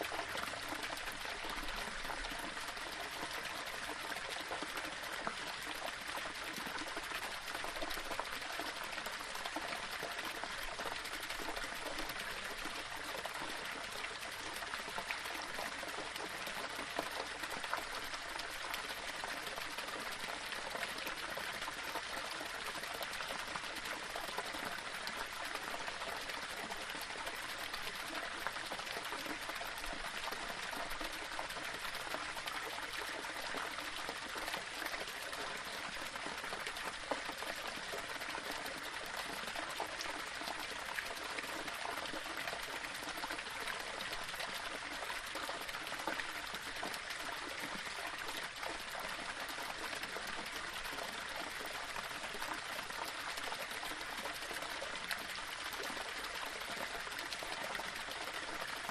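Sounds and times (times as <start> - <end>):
small waterfall splashing over rocks: 0.0 - 58.9.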